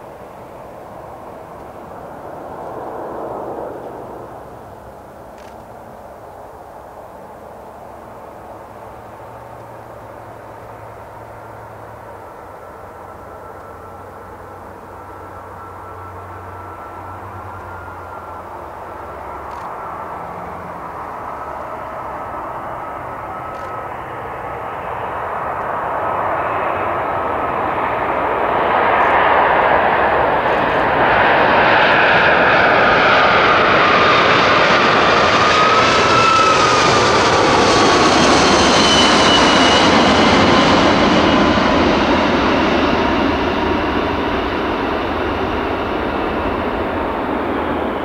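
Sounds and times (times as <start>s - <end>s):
jet engines passing overhead: 0.0s - 48.0s.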